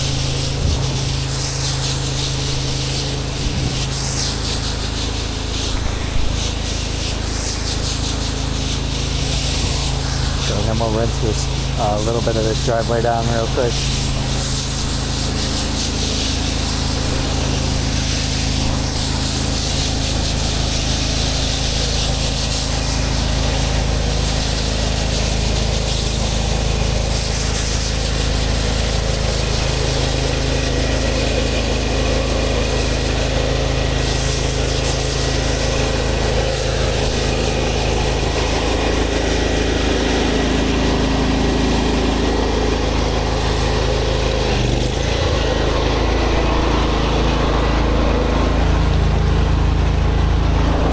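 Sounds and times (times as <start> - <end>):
pressure washer engine humming: 0.0 - 50.9
water jet hissing on concrete: 0.0 - 50.9.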